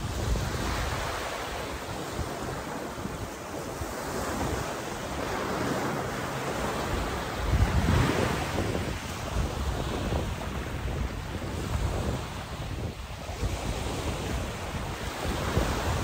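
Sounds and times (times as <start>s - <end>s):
surf washing up a beach: 0.0s - 16.0s
wind buffeting microphone: 0.0s - 16.0s.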